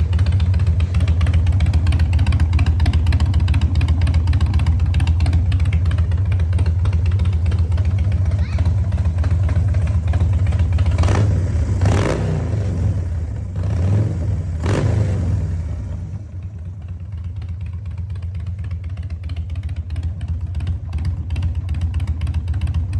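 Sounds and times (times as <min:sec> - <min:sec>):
motorcycle engine revving and idling: 0:00.0 - 0:22.9.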